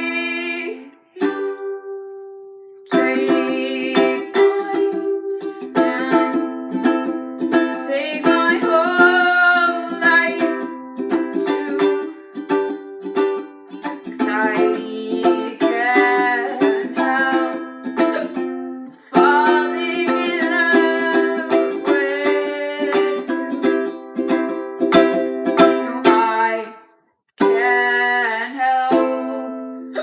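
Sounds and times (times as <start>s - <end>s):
person singing: 0.0s - 2.2s, 2.9s - 30.0s
ukulele strummed in chords: 0.0s - 30.0s.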